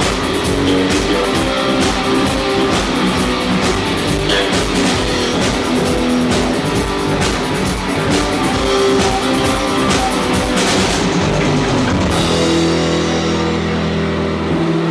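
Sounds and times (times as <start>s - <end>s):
drum kit: 0.0s - 14.9s
rock band playing: 0.0s - 14.9s.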